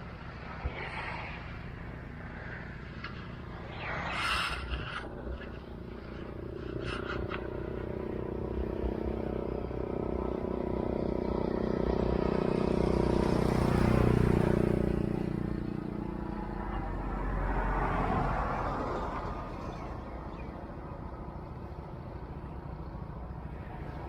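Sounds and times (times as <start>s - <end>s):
vehicle engine hum passing: 0.0s - 24.0s.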